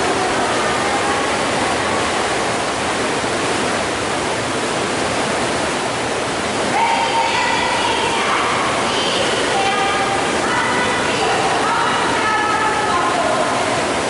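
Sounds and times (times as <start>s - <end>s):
churning water: 0.0s - 14.0s.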